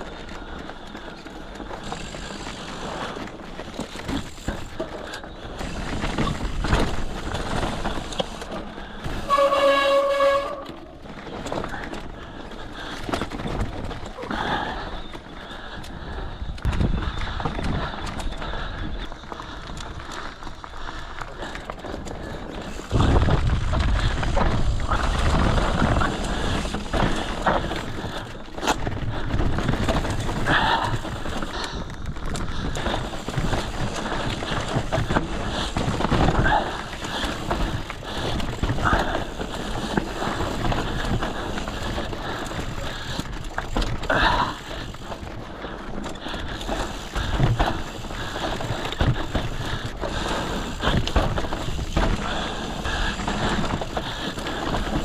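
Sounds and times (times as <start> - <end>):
bike chain and frame rattling: 0.0 - 55.0
bike tyres rolling over dirt: 0.0 - 55.0.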